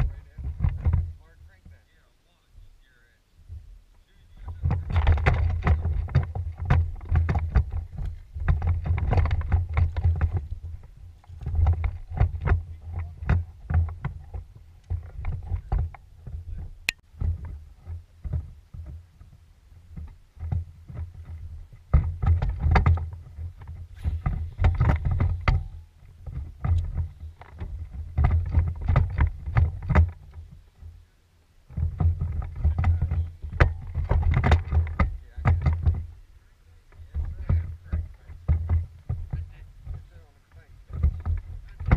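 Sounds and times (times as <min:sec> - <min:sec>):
boat knocks and rustles: 0:00.0 - 0:02.1, 0:03.4 - 0:41.9
wind rumbling on microphone: 0:00.0 - 0:41.9.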